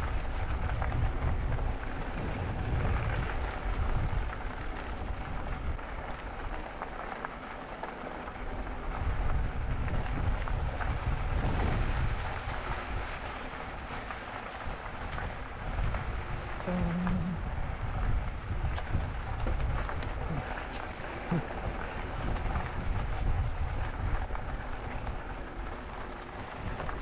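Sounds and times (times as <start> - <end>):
wind buffeting microphone: 0.0 - 6.6, 8.6 - 27.0.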